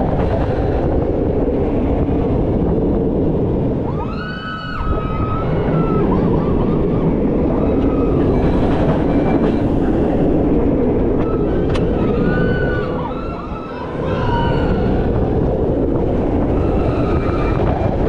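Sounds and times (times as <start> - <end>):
roller coaster on steel track: 0.0 - 18.0
wind rush: 0.0 - 18.0.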